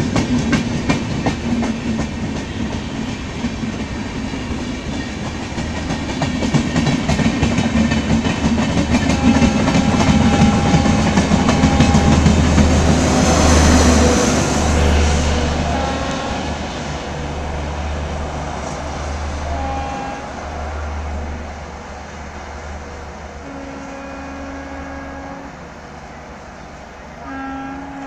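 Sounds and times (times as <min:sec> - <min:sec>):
diesel train drone: 0:00.0 - 0:28.0
train wheel and rail noise: 0:00.0 - 0:28.0.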